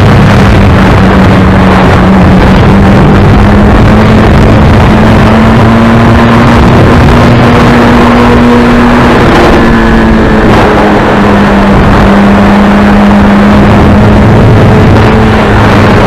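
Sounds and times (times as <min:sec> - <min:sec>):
heavy wind noise: 0:00.0 - 0:16.0
motorcycle engine running hard: 0:00.0 - 0:16.0.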